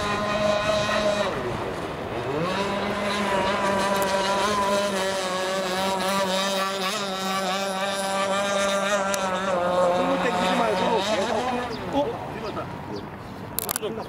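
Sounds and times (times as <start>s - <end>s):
model boat engine droning: 0.0s - 13.8s.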